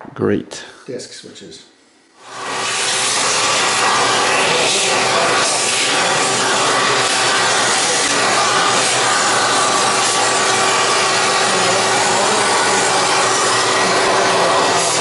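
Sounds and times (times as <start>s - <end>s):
vacuum cleaner running: 2.2s - 15.0s.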